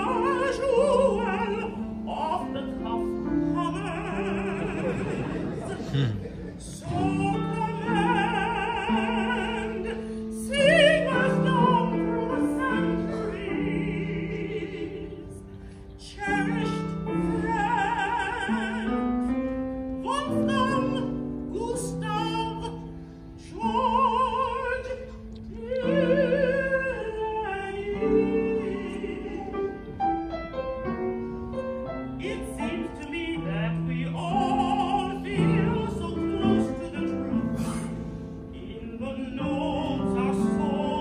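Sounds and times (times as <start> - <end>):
woman singing operatically: 0.0 - 5.8, 6.7 - 19.4, 20.0 - 22.8, 23.4 - 29.9, 32.2 - 37.6, 38.5 - 41.0.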